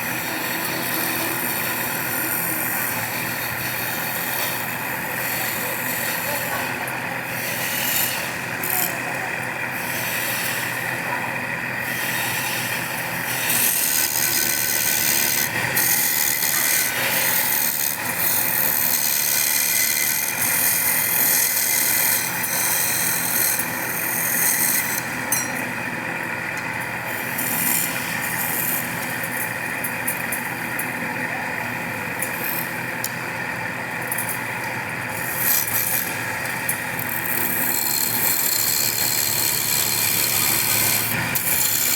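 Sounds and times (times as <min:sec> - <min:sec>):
woodworking machine cutting wood: 0:00.0 - 0:41.9.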